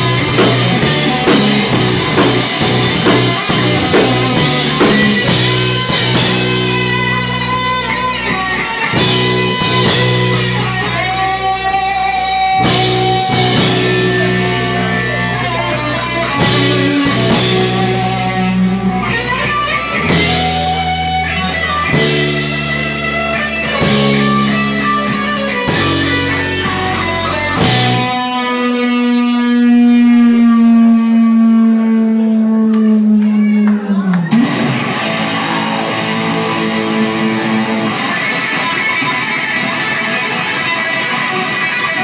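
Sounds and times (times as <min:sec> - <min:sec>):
live rock band playing: 0:00.0 - 0:31.7, 0:32.8 - 0:42.0
electric guitar sustained notes: 0:00.0 - 0:42.0.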